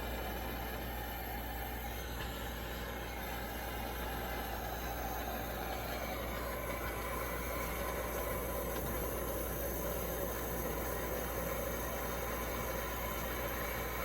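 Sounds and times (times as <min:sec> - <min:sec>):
stove burner hissing: 0:00.0 - 0:14.0.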